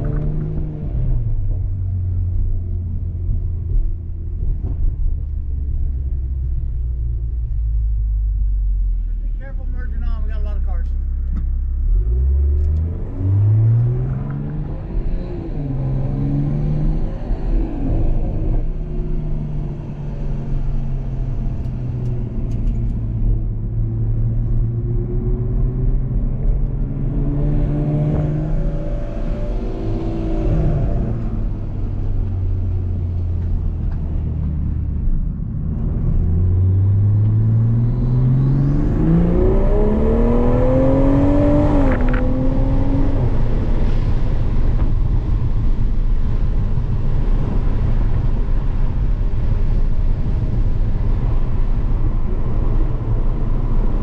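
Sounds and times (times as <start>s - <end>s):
car engine revving: 7.2s - 54.0s.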